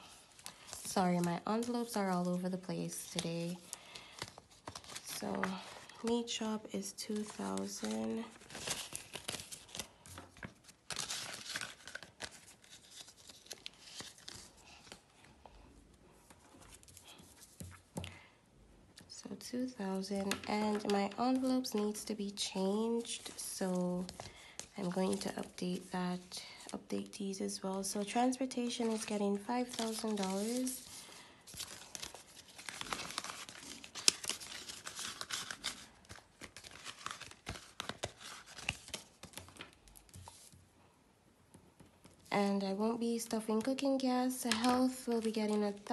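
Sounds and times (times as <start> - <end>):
paper rustling and crinkling: 0.0 - 15.4, 20.0 - 40.6, 43.2 - 45.9.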